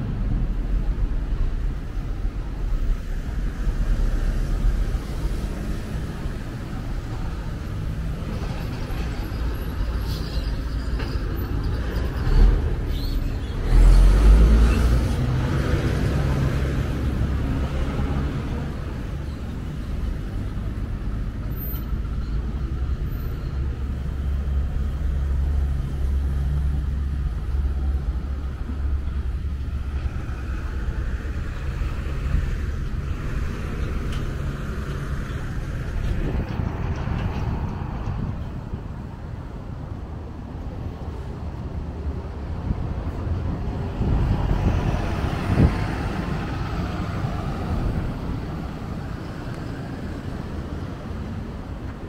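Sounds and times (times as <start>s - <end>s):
cars driving past: 0.0s - 52.0s
low traffic rumble: 0.0s - 52.0s.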